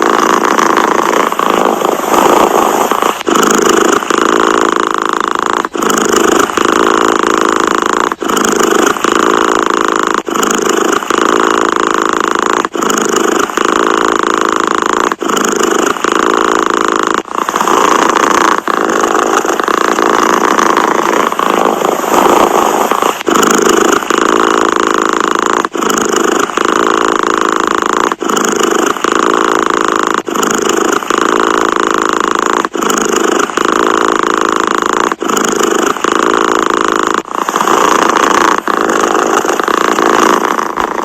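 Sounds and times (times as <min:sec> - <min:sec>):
cat purring: 0:00.0 - 0:41.0.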